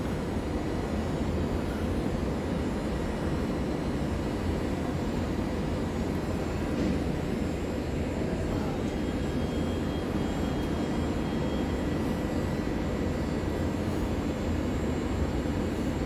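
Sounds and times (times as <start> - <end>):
faint high whine: 0.0 - 16.0
train equipment low rumble: 0.0 - 16.0.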